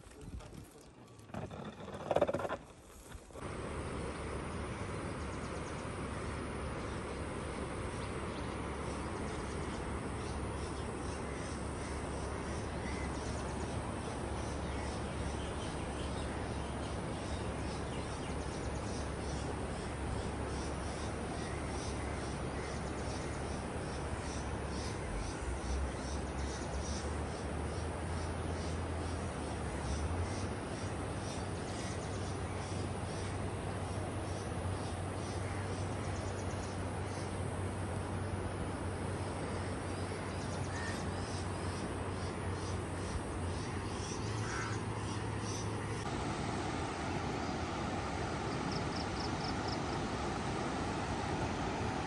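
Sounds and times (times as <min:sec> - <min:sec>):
steady hiss-like background: 0:00.0 - 0:52.0.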